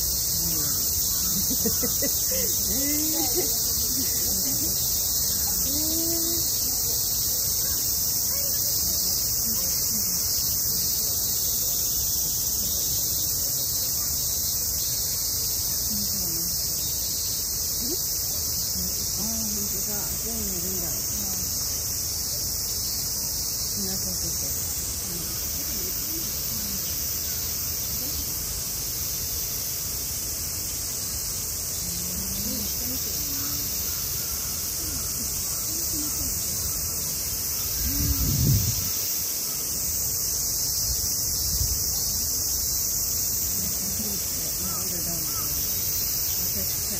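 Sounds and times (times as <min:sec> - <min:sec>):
faint voices of people: 0:00.0 - 0:29.0, 0:30.9 - 0:40.0, 0:40.9 - 0:46.9
cicada chorus drone: 0:00.0 - 0:46.9.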